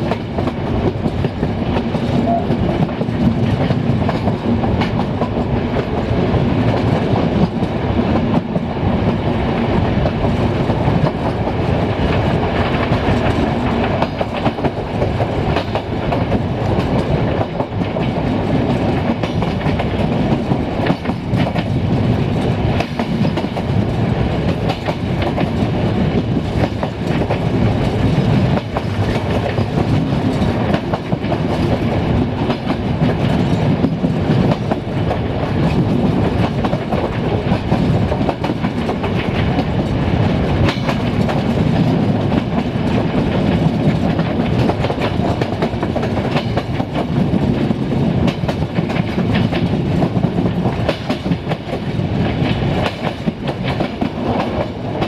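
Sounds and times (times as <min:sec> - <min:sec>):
train rolling rumble: 0:00.0 - 0:55.0
train wheels clicking over rail joints: 0:00.0 - 0:55.0.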